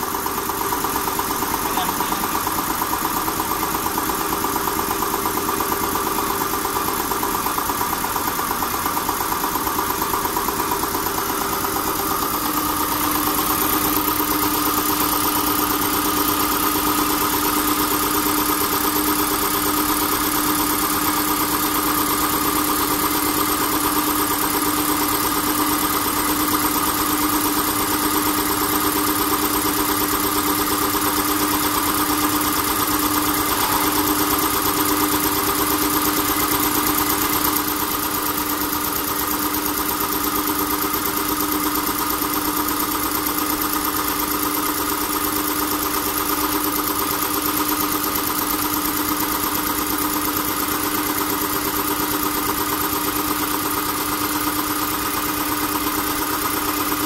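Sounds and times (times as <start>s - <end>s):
air compressor running: 0.0s - 57.0s.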